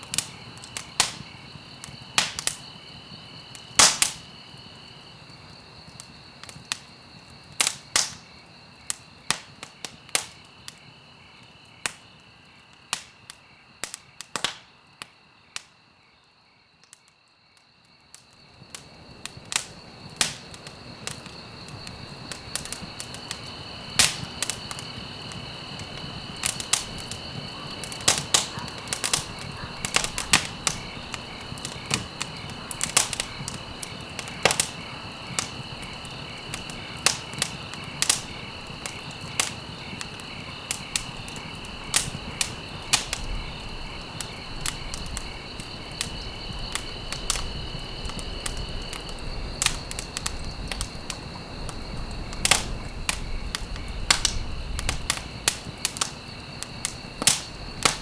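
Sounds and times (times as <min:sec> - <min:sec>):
wood fire crackling and popping: 0:00.0 - 0:15.7, 0:17.8 - 0:58.0.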